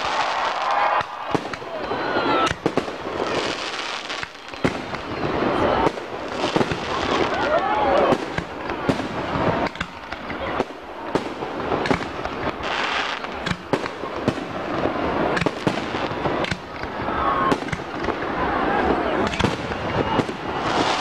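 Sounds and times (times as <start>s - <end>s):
firework shells bursting with bangs: 0.0s - 18.4s
fireworks crackling: 0.0s - 21.0s.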